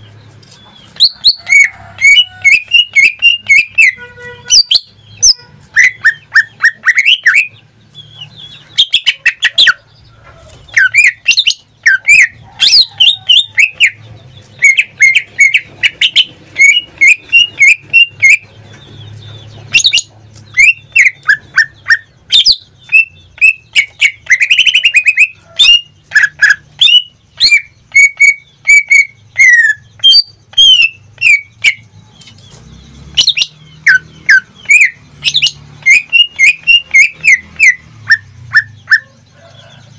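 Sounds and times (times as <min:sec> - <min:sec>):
bird singing with chirps and whistles: 0:00.0 - 0:39.9.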